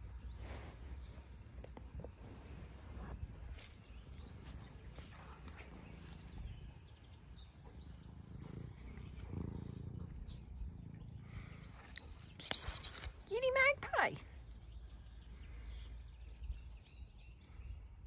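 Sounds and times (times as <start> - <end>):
bird chirps: 0.1 - 2.3, 2.9 - 17.8.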